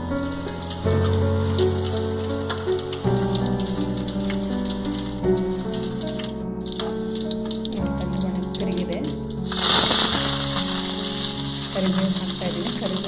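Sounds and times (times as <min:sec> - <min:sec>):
background music of held chords: 0:00.0 - 0:13.0
spices sizzling in hot oil: 0:00.0 - 0:13.0.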